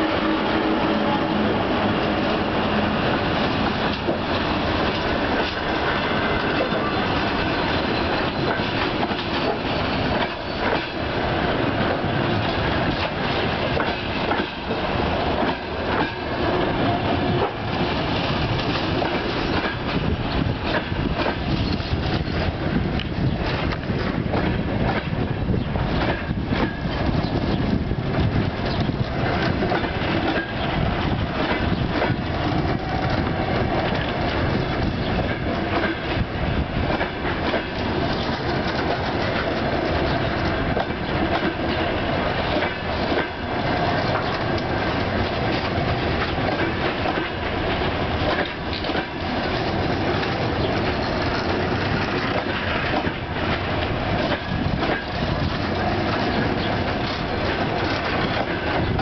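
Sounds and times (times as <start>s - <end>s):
train wheels rumbling on rail: 0.0s - 59.0s
wheels clacking over rail joints: 1.8s - 59.0s.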